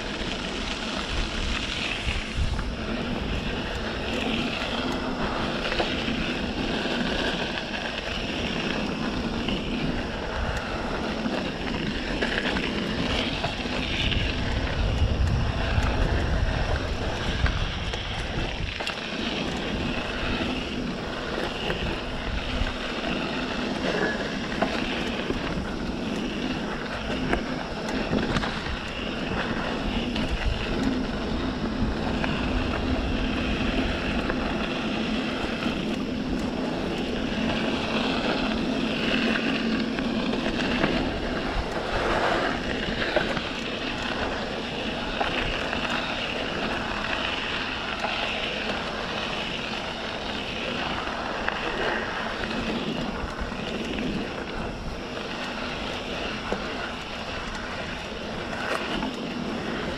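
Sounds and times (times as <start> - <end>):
bike rattles and clicks: 0.0 - 59.9
tyres rumbling on dirt: 0.0 - 59.9
wind buffeting microphone: 0.0 - 59.9.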